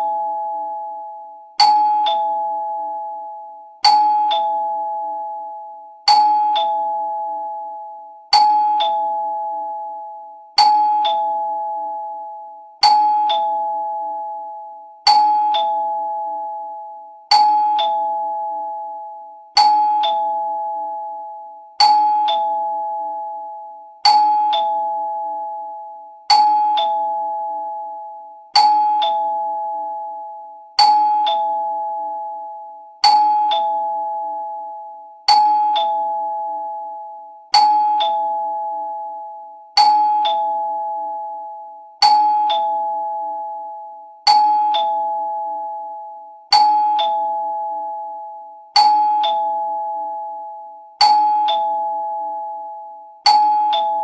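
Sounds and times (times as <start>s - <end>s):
two-note doorbell chime: 0.0s - 54.0s.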